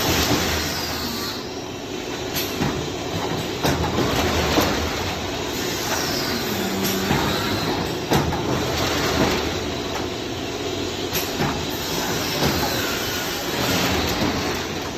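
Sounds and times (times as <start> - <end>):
packing machine running: 0.0 - 14.9.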